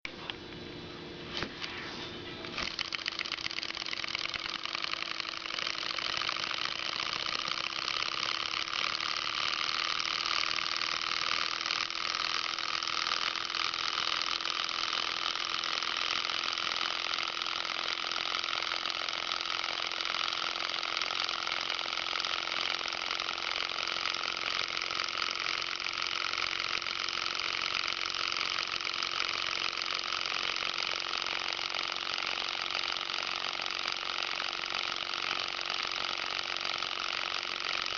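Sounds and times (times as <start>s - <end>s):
stirling engine mechanical whir: 2.2s - 37.9s.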